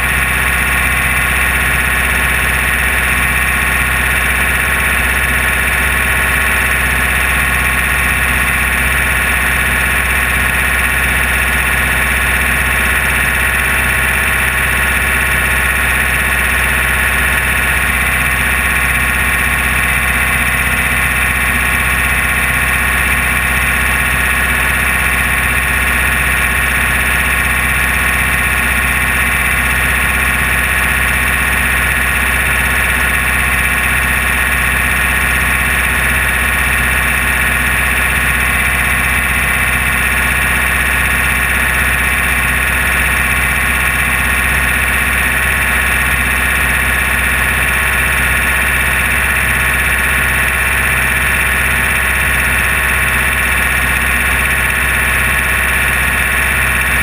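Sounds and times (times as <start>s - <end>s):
race car engine drone: 0.0s - 57.0s.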